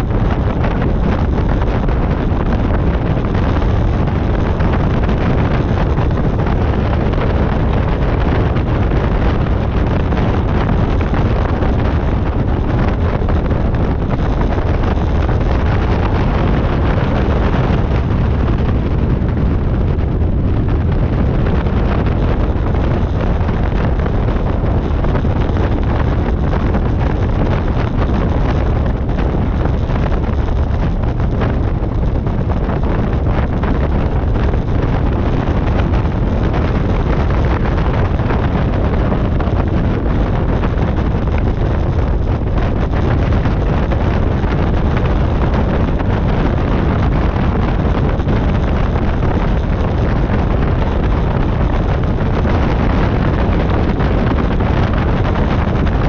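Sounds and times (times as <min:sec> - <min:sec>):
light aircraft engine running: 0:00.0 - 0:56.0
wind buffeting microphone: 0:00.0 - 0:56.0.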